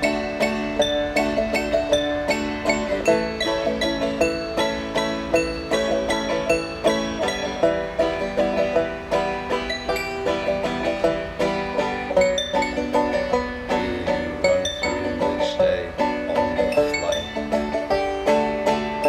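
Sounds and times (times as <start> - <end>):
banjo picking: 0.0 - 19.0
piano chords: 0.0 - 19.0.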